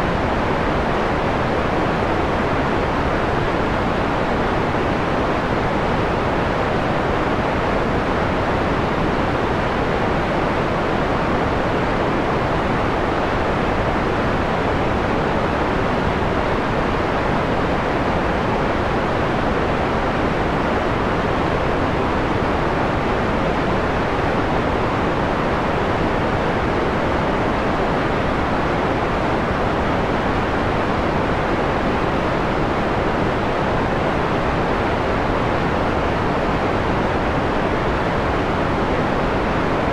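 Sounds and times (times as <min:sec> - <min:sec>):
muffled white noise hiss: 0:00.0 - 0:39.9.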